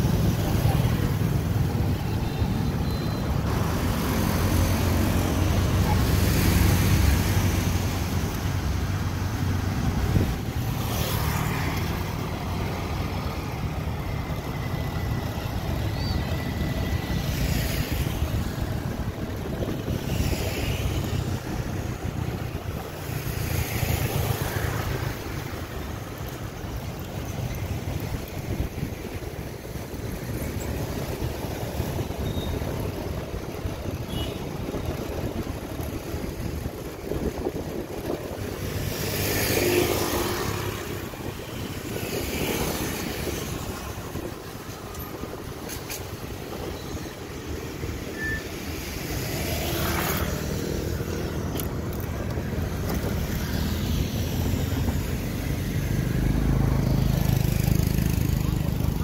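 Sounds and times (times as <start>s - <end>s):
traffic engine rumble: 0.0s - 59.0s
vehicles passing by: 0.0s - 59.0s.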